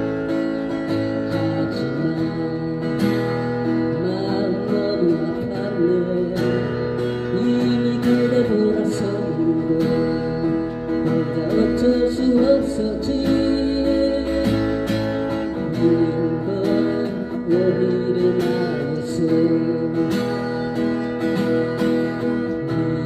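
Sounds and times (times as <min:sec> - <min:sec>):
acoustic guitar strumming: 0:00.0 - 0:23.0
man singing a ballad: 0:00.0 - 0:23.0.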